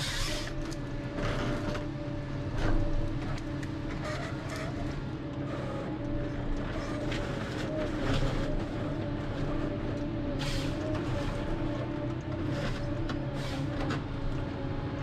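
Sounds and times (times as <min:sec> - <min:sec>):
harvester engine and hydraulics: 0:00.0 - 0:15.0.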